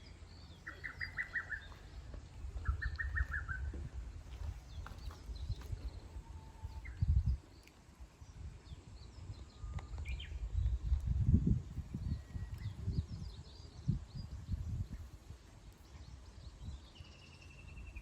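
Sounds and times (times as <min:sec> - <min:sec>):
low uneven rumble: 0:00.0 - 0:17.0
small birds chirping: 0:00.0 - 0:18.0.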